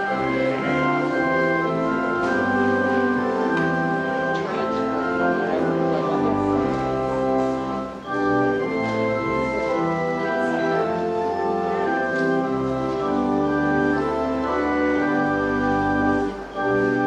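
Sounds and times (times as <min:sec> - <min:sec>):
organ playing slow chords: 0:00.0 - 0:17.0.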